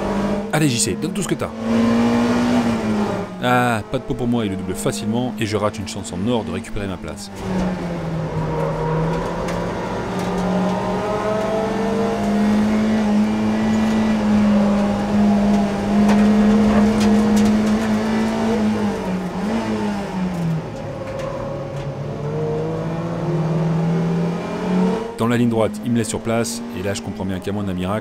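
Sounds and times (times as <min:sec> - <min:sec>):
race car engine at full throttle: 0:00.0 - 0:28.0.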